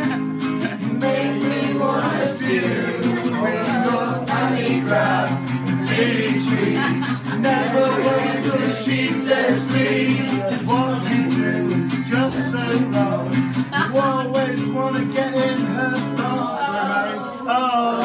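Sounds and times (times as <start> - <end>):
acoustic guitar strumming: 0.0 - 18.0
group of voices singing: 0.0 - 18.0.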